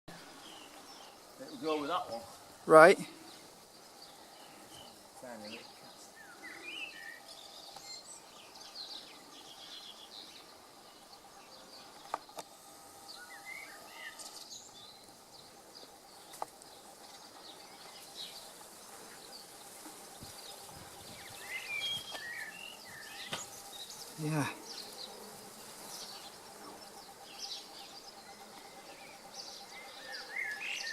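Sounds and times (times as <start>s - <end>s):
faint hum of bee swarm: 0.1s - 30.9s
small birds chirping and singing: 0.1s - 30.9s.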